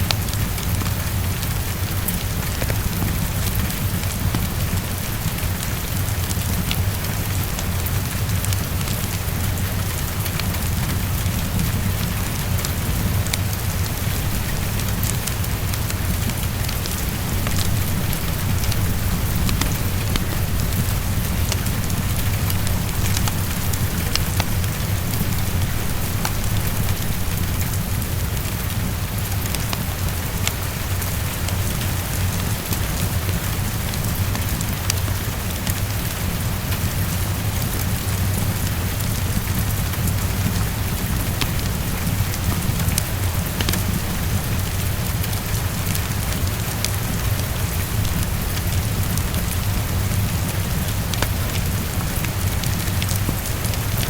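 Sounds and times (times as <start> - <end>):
heavy rain against a window: 0.0 - 54.0
steady low rumble: 0.0 - 54.0
wood fire crackling: 0.0 - 54.0.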